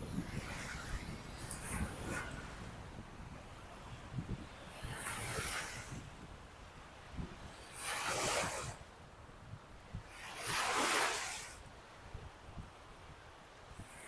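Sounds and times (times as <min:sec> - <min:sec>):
waves breaking on beach: 0:00.0 - 0:14.0
wind buffeting microphone: 0:00.0 - 0:14.0.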